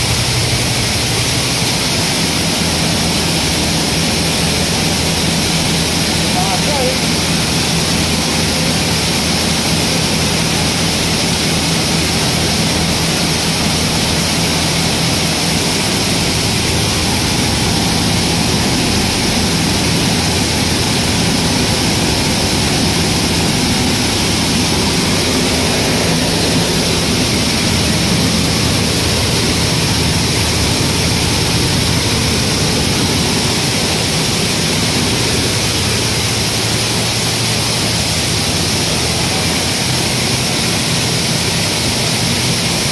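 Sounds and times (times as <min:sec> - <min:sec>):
grain cleaning machine rushing: 0:00.0 - 0:42.9
low steady hum: 0:00.0 - 0:42.9.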